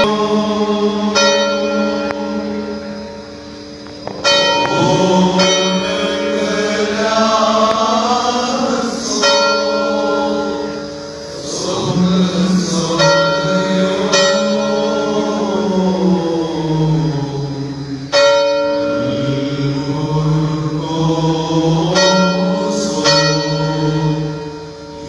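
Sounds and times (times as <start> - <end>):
men chanting a hymn: 0.0 - 2.7, 4.2 - 25.0
church bell ringing: 0.0 - 25.0.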